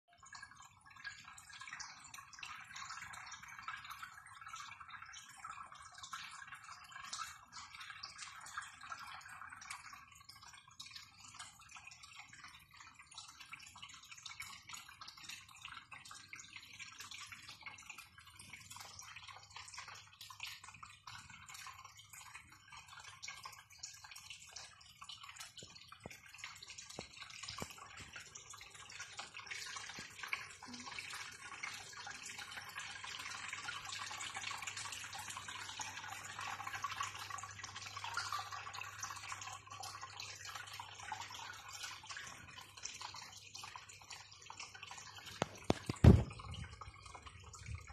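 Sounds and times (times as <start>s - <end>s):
aquarium water bubbling: 0.0s - 47.9s.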